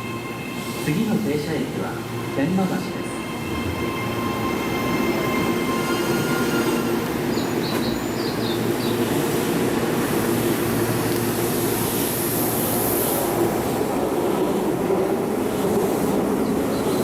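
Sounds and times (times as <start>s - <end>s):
train motors and wheels rumbling: 2.9s - 17.0s.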